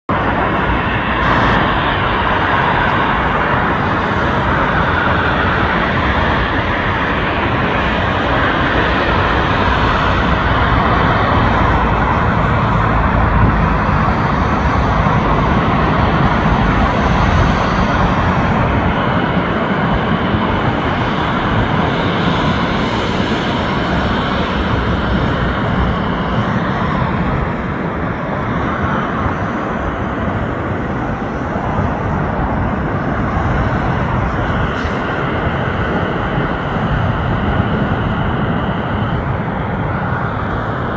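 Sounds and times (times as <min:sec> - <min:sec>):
jet engines at taxi power: 0:00.1 - 0:40.9.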